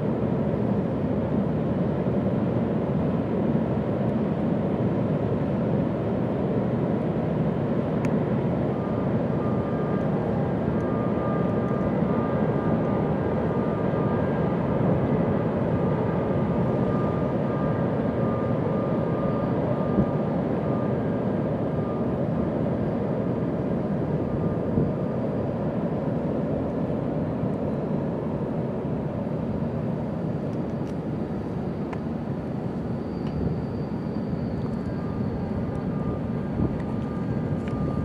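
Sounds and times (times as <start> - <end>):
faint whine: 0.0 - 38.0.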